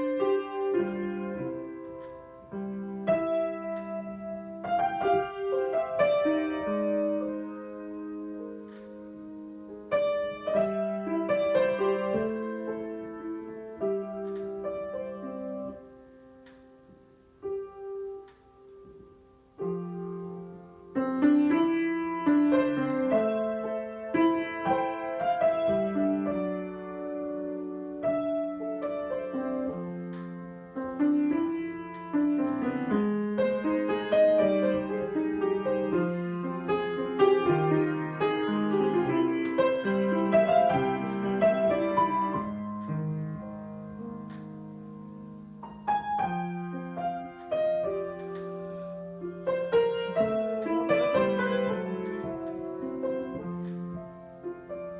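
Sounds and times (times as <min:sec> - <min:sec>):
solo piano: 0:00.0 - 0:54.9.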